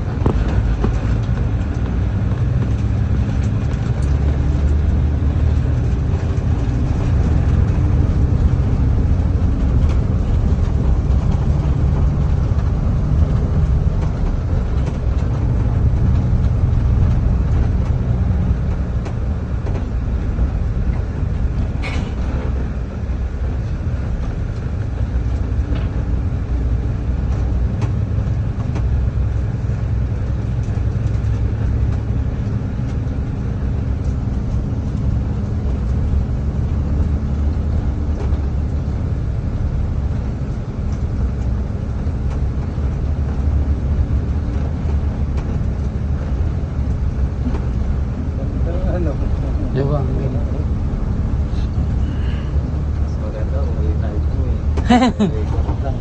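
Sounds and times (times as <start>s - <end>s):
low rumble with faint hum: 0.0s - 56.0s.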